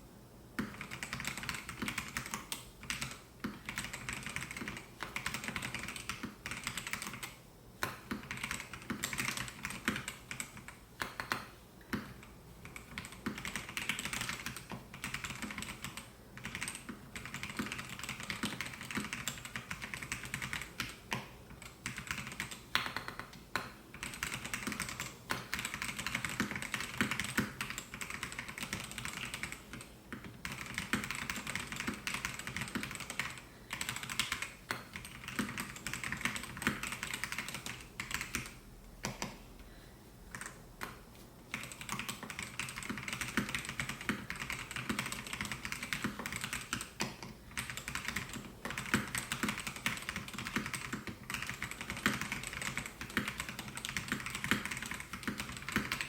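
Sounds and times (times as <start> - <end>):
mechanical keyboard typing: 0.6 - 39.4, 40.3 - 56.0.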